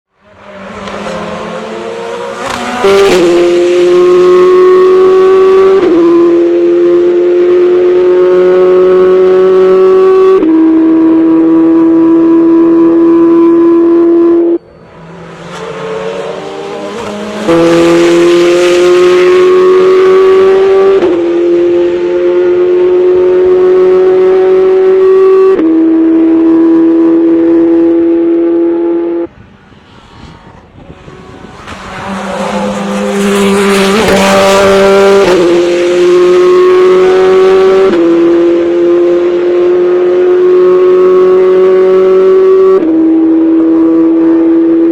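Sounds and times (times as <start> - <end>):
race car engine at high revs: 0.1 - 44.9.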